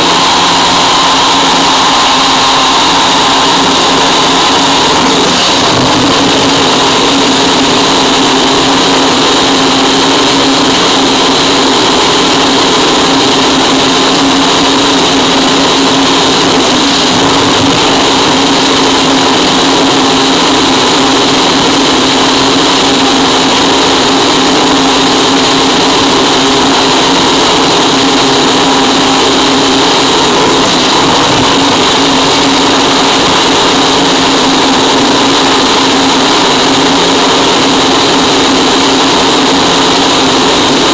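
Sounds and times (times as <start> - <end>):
dense distorted noise: 0.0 - 40.9
low drone: 0.0 - 40.9.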